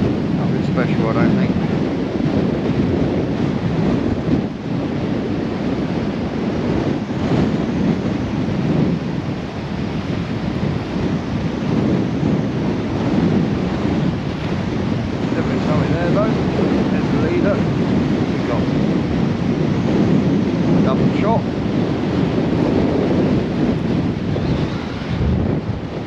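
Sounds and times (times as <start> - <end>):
storm wind buffeting microphone: 0.0 - 26.0.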